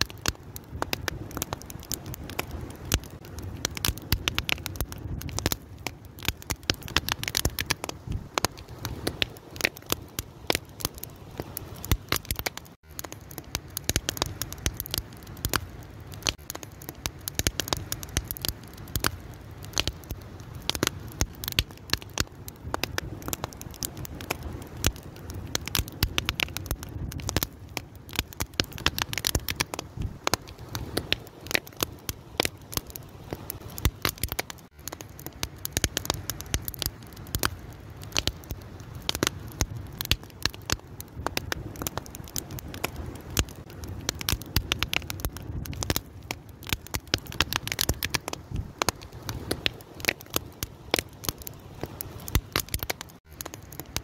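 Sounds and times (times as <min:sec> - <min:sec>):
low rumble of burning: 0:00.0 - 0:54.0
wood fire crackling and popping: 0:00.0 - 0:54.0.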